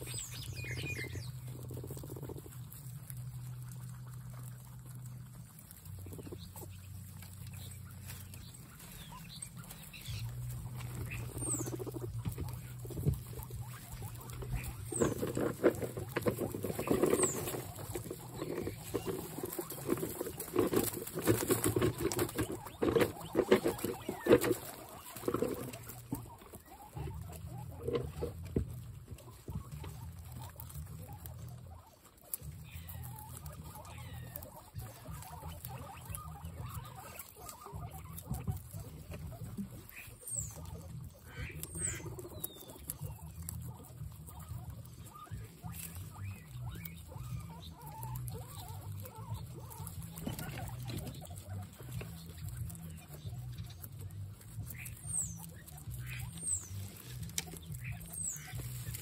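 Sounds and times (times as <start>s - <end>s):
guinea pig high squeaks: 0.0s - 59.0s
guinea pigs chewing vegetables: 0.0s - 59.0s.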